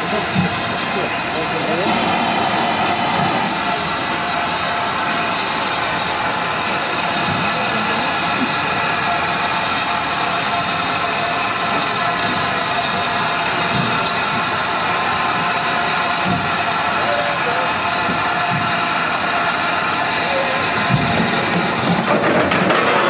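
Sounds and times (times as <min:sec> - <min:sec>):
steam locomotive hissing steam: 0:00.0 - 0:23.0.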